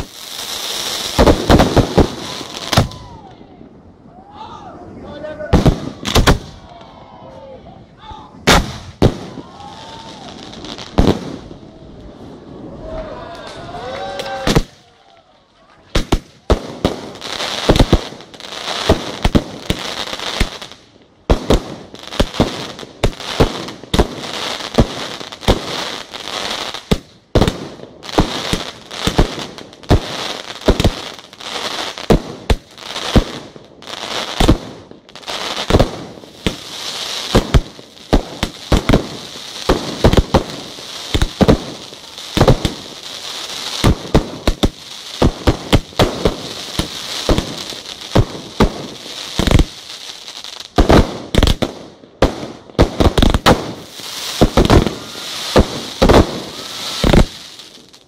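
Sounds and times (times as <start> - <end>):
fireworks bangs: 0.0 - 3.7, 5.2 - 6.8, 8.4 - 15.0, 15.8 - 58.0
fireworks crackling and hissing: 0.0 - 7.0, 8.4 - 58.0.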